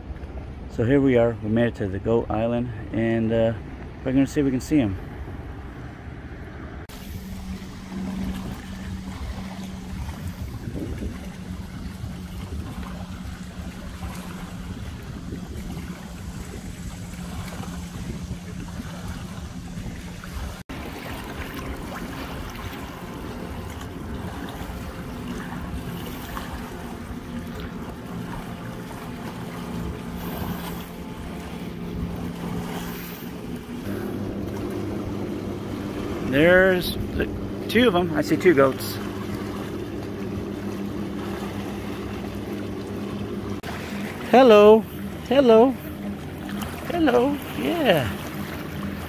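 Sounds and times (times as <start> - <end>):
boat motor hum: 0.0 - 49.0
wind buffeting microphone: 4.8 - 44.2.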